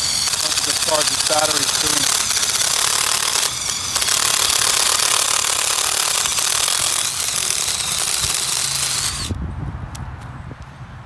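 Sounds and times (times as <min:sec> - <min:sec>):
impact driver hammering into steel: 0:00.0 - 0:09.1.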